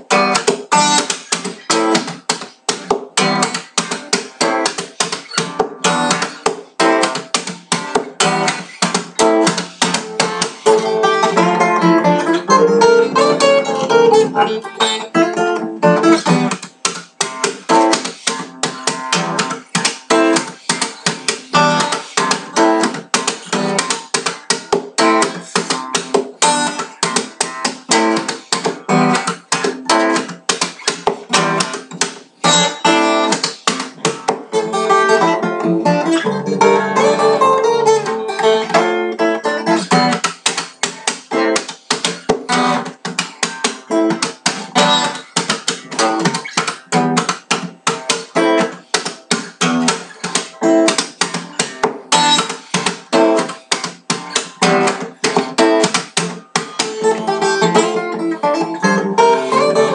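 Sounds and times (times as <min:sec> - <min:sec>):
fingerpicked acoustic guitar: 0:00.0 - 0:59.9.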